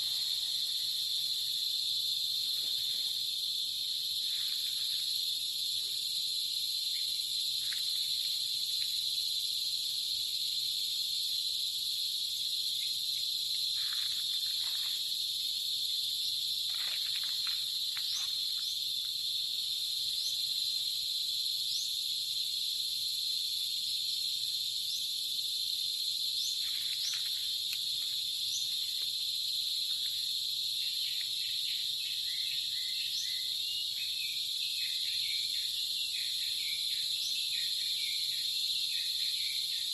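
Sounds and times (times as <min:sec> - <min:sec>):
insects trilling: 0:00.0 - 0:39.9
low pulsing insect call: 0:00.0 - 0:39.9.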